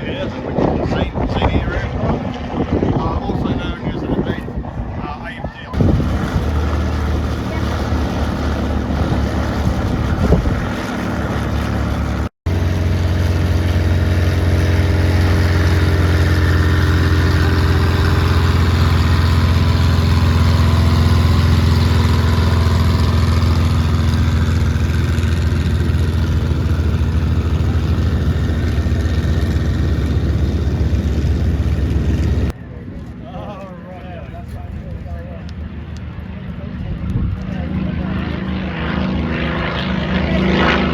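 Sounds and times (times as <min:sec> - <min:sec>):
engine running steadily: 0:05.7 - 0:40.9.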